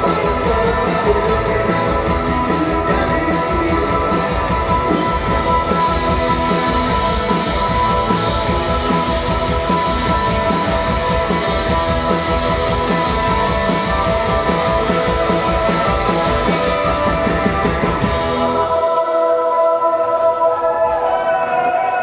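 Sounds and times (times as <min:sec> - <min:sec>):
drum beat with cymbals: 0:00.0 - 0:18.7
electric guitar chords: 0:00.0 - 0:22.0.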